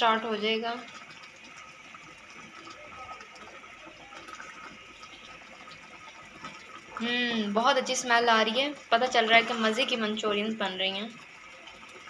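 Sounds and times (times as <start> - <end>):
sauce bubbling in a wok: 0.0 - 12.0.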